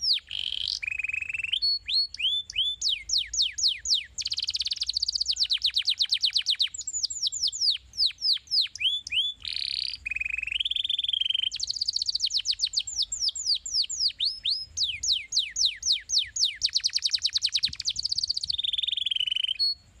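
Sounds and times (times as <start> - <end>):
canary singing: 0.0 - 19.8.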